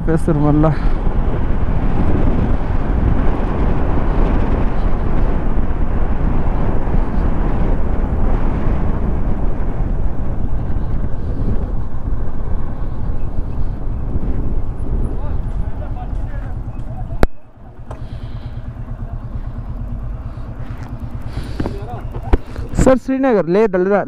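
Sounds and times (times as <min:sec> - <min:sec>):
wind rushing over microphone: 0:00.0 - 0:23.1
motorcycle and road noise: 0:00.0 - 0:24.0.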